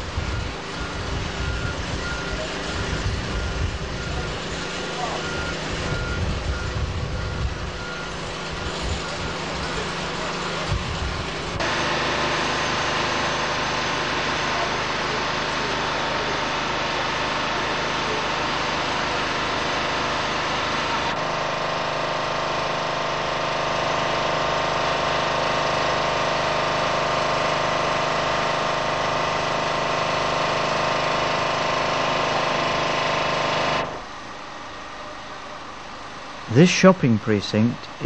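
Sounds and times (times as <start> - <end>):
small engine humming steadily: 0.0 - 38.0.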